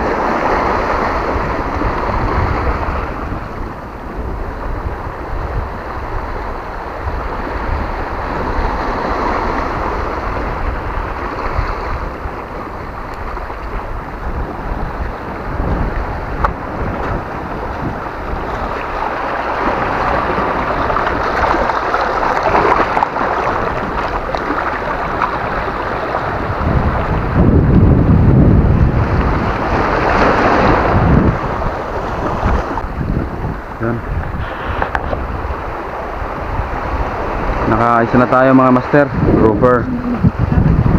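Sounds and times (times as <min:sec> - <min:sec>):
waves washing over pebbles: 0:00.0 - 0:39.3
wind buffeting microphone: 0:00.0 - 0:40.9.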